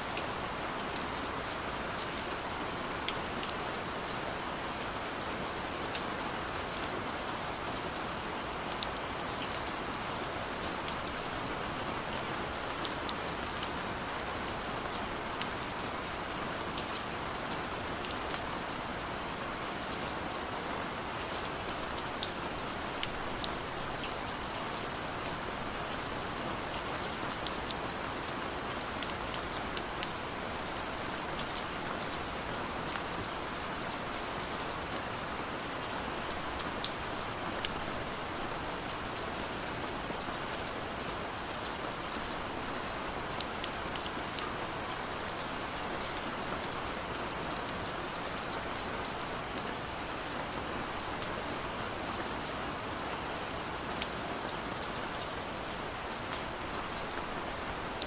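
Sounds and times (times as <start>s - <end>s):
gentle rain: 0.0s - 58.0s.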